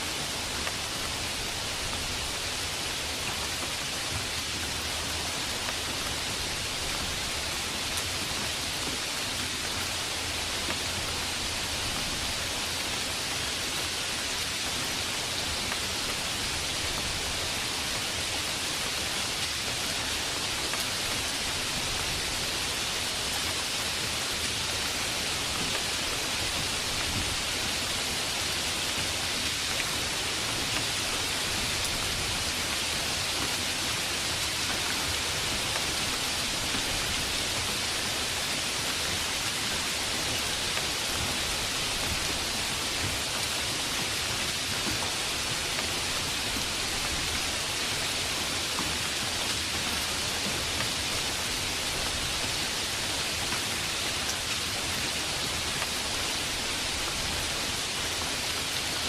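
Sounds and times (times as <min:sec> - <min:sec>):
heavy rain hiss: 0:00.0 - 0:59.0.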